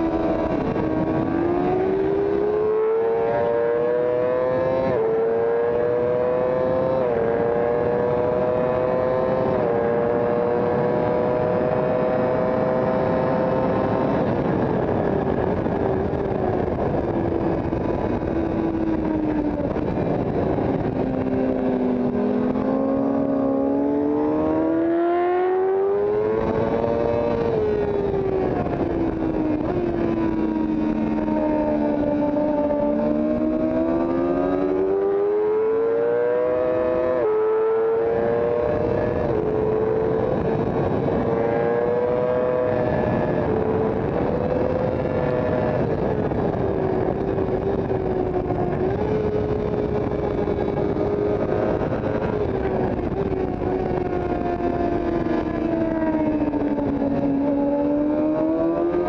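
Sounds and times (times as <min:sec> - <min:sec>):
motorcycle engine revving: 0:00.0 - 0:59.0
wind rush over microphone: 0:00.0 - 0:59.0.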